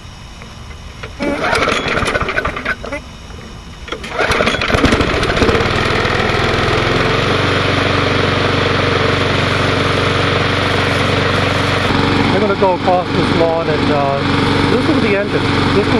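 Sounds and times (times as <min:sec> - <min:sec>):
lawn mower engine starting and running: 0:00.5 - 0:15.9.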